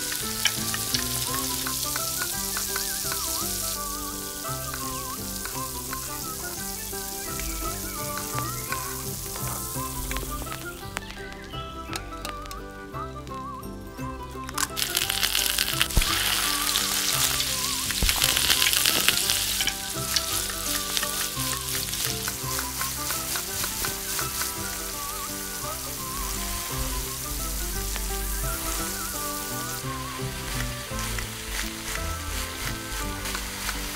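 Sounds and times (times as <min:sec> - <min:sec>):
egg sizzling in hot oil: 0:00.0 - 0:11.4, 0:14.6 - 0:33.9.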